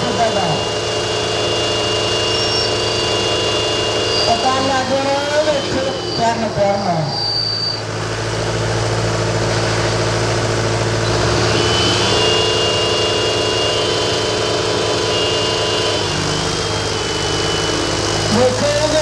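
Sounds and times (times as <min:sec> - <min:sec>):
thin high whine: 0:00.0 - 0:07.9, 0:11.0 - 0:19.0
tractor diesel engine at high revs: 0:00.0 - 0:19.0.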